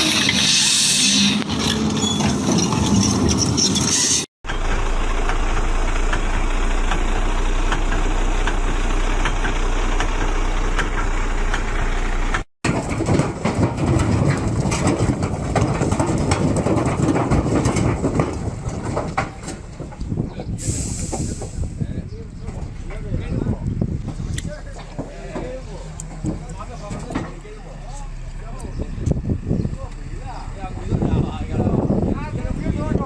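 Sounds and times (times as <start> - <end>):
heavy truck engines under load: 0.0 - 33.0.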